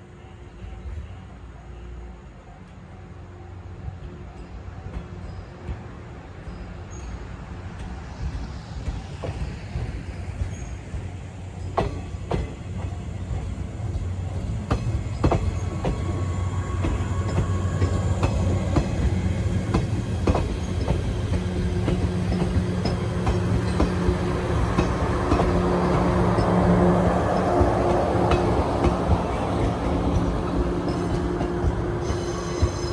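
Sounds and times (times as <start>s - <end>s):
low train rumble: 0.0s - 32.9s
train wheels clicking over rail joints: 4.0s - 32.9s.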